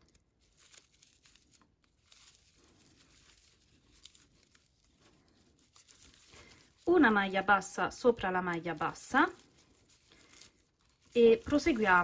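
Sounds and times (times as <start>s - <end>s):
yarn crinkling rustle: 0.0s - 12.0s.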